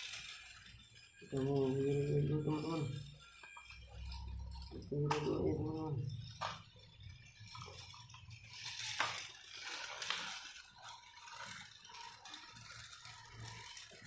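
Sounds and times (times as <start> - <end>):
toys scraping and rattling: 0.0 - 14.0.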